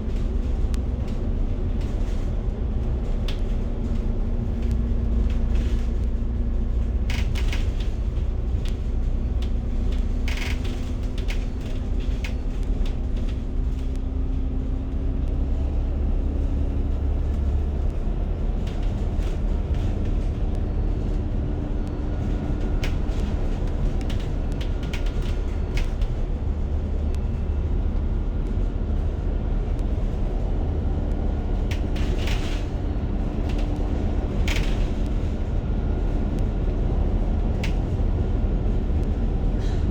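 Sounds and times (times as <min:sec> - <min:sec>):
transit vehicle rumble: 0:00.0 - 0:39.9
rattles and clicks: 0:00.1 - 0:14.7, 0:17.3 - 0:39.8.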